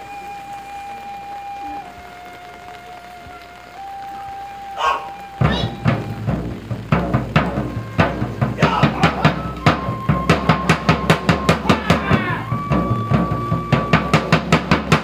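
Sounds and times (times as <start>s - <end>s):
drum beats: 0.0s - 15.0s
transverse flute long notes: 0.0s - 15.0s.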